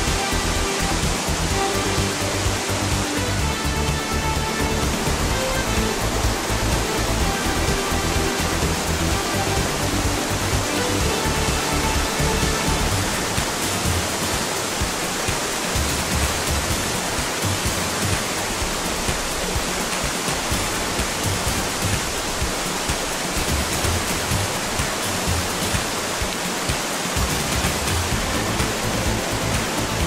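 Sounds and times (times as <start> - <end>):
rush of whitewater: 0.0 - 30.0.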